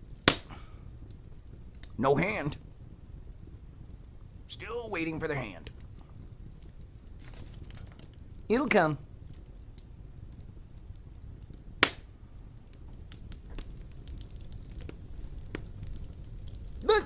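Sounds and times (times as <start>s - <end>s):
fire pop: 0.0s - 17.0s
wood fire crackling: 0.0s - 17.0s.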